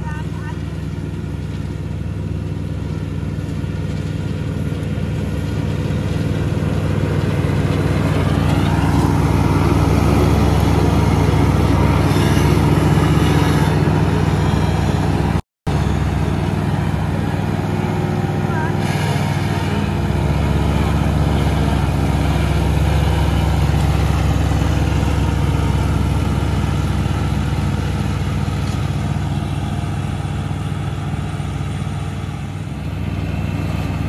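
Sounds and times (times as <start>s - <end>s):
riding mower engine running: 0.0s - 34.0s.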